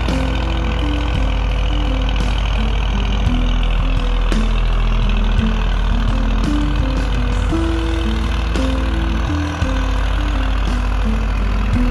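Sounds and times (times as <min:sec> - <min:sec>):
background music stepping melody: 0:00.0 - 0:11.9
tractor engine running: 0:00.0 - 0:11.9.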